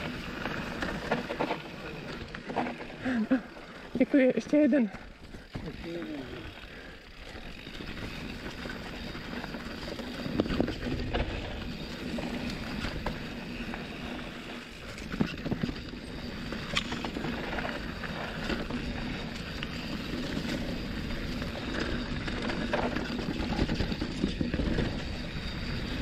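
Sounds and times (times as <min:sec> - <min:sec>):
bike clunking and rattling on bumps: 0:00.0 - 0:26.0
bike tyres rushing on dirt trail: 0:00.0 - 0:26.0.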